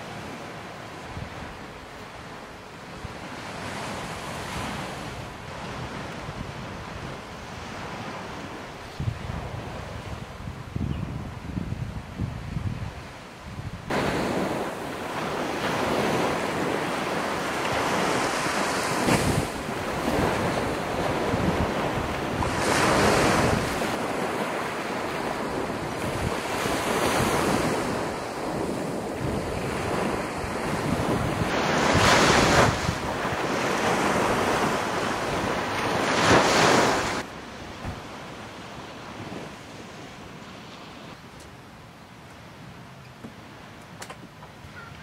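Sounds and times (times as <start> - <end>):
small waves breaking on sand: 0.0 - 10.4, 12.9 - 41.2
wind buffeting microphone: 1.0 - 40.2.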